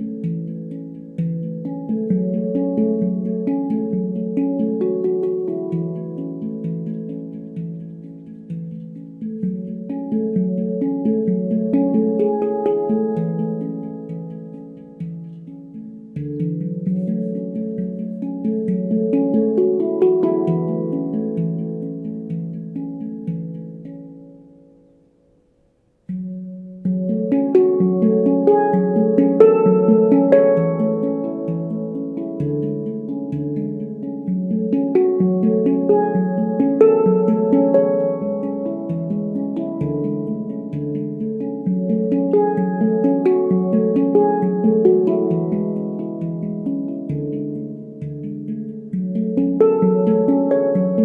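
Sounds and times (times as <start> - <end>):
handpan ringing notes: 0.0 - 51.0.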